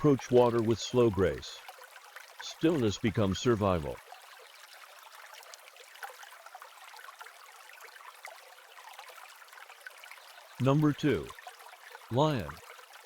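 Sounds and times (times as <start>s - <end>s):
trickle of running water: 0.0s - 13.0s
water drips and splashes: 0.0s - 13.0s.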